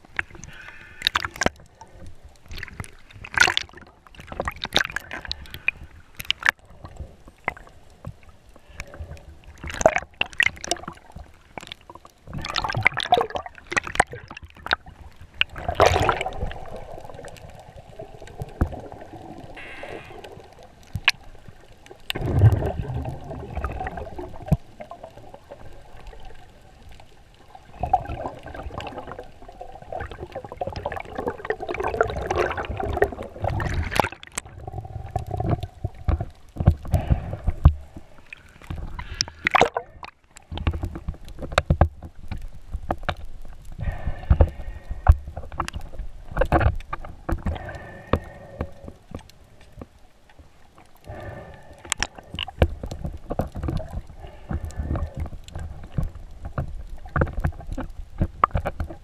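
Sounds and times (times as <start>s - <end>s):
sharp underwater clicks: 0.0s - 59.0s
underwater gurgling water: 0.0s - 59.0s.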